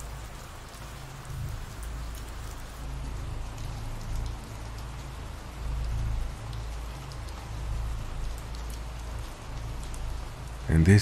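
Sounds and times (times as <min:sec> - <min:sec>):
rain hiss: 0:00.0 - 0:11.0
raindrop ticks: 0:00.0 - 0:11.0.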